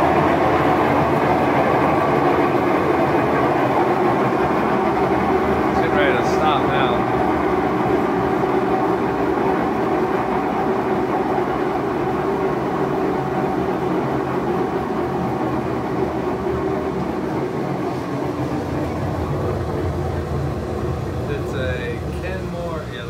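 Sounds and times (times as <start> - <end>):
washing machine spinning roar: 0.0 - 23.0.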